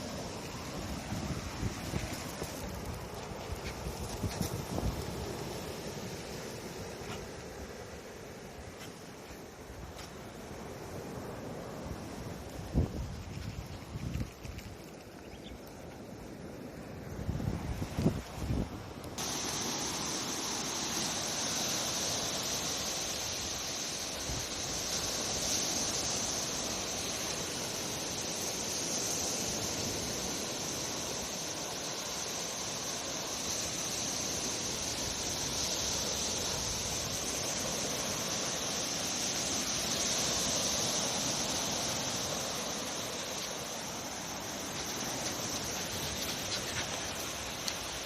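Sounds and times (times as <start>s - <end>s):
surf hissing: 0.0s - 15.1s, 15.7s - 48.0s
constant high-pitched hiss: 0.0s - 48.0s.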